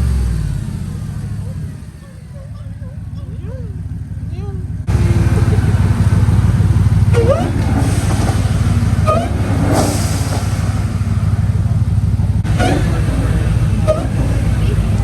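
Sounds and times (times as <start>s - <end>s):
engine idling with deep rumble: 0.0s - 15.0s.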